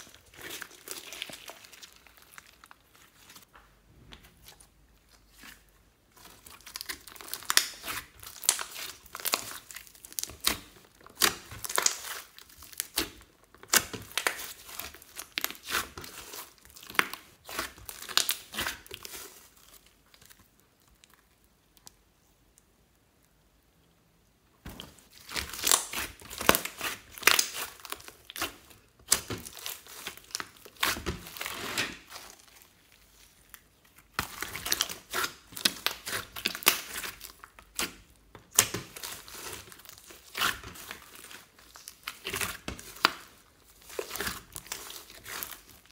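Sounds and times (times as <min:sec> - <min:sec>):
slime crackling and popping: 0:00.0 - 0:03.5, 0:06.1 - 0:22.0, 0:24.7 - 0:45.9.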